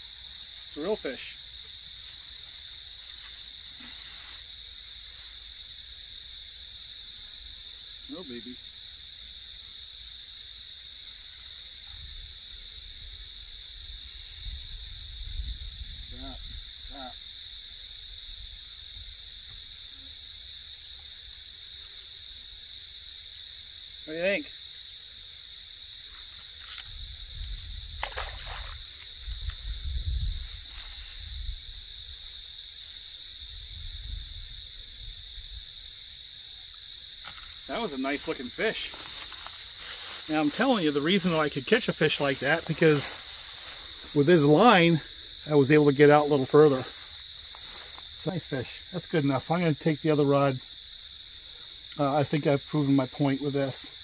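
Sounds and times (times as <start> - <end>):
insect chorus trilling: 0.0 - 54.0.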